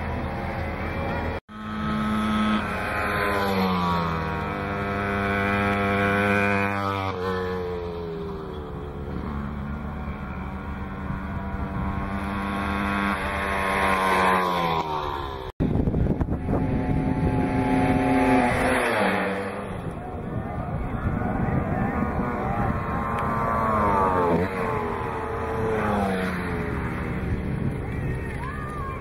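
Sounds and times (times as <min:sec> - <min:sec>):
moped engines running: 0:00.0 - 0:29.0.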